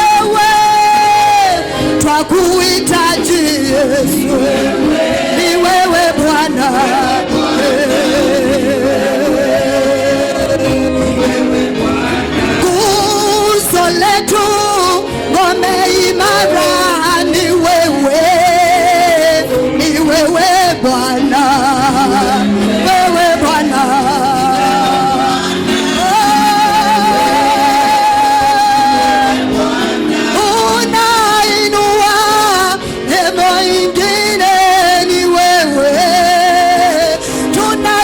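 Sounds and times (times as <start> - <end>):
congregation singing: 0.0 - 38.0.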